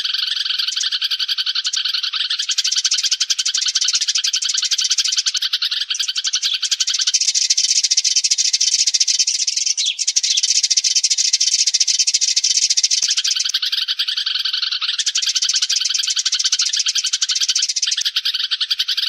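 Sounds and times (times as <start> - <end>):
sparrow flock chirping: 0.0 - 19.0.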